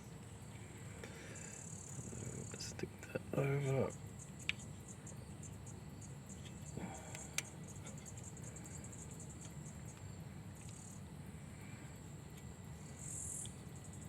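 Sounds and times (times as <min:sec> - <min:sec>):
insects trilling: 0:00.0 - 0:14.0
low background hum: 0:00.0 - 0:14.0.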